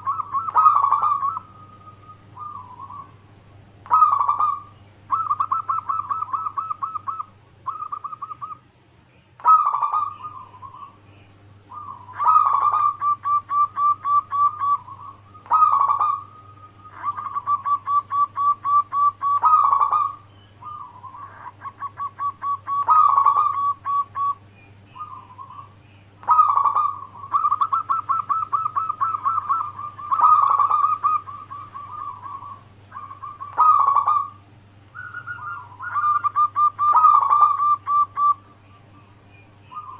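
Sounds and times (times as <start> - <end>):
dove cooing: 0.0 - 8.7, 9.4 - 39.9
faint low hum: 0.0 - 39.9.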